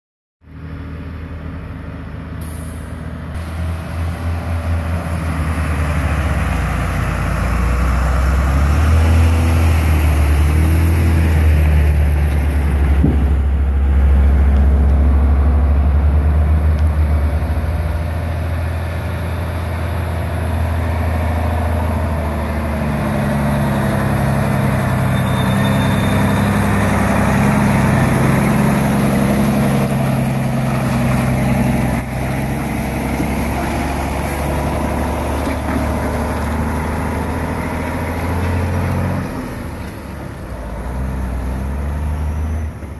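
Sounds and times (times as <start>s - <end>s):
diesel truck passing: 0.5s - 42.9s.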